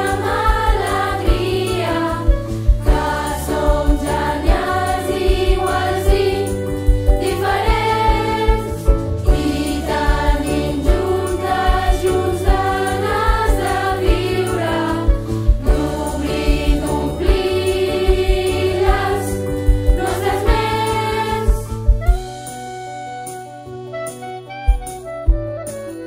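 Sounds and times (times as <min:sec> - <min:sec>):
choir singing: 0:00.0 - 0:21.8
instrumental accompaniment with beat: 0:00.0 - 0:26.0.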